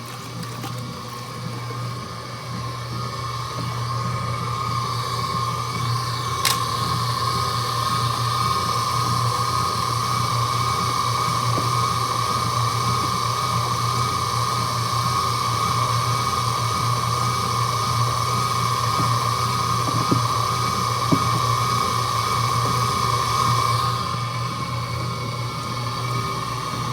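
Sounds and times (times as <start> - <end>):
laundry machine motor humming: 0.0 - 26.9.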